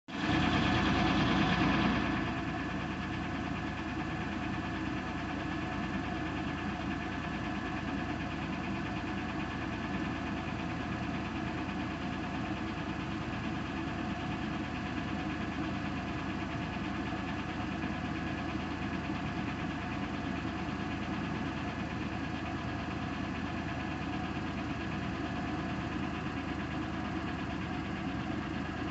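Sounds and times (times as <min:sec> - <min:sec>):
car engine idling: 0:00.1 - 0:28.9.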